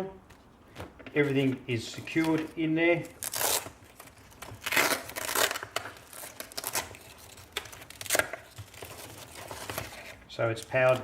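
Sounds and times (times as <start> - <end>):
packaging rustling and crinkling: 0.3 - 11.0.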